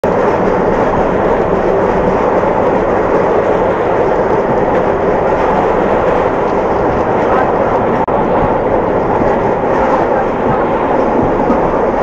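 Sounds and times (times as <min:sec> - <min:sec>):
steam train running noise: 0:00.0 - 0:12.0.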